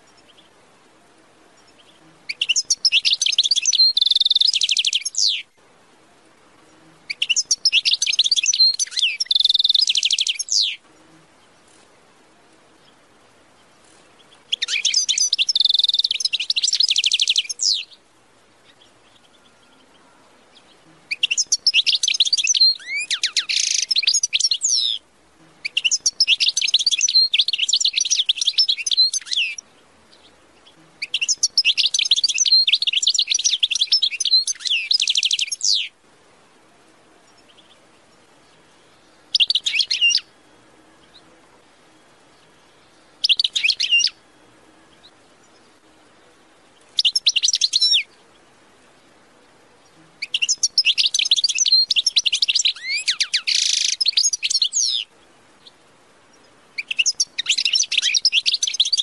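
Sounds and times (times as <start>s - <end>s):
finch singing trills: 0.0s - 5.6s, 6.6s - 36.0s, 37.2s - 59.0s.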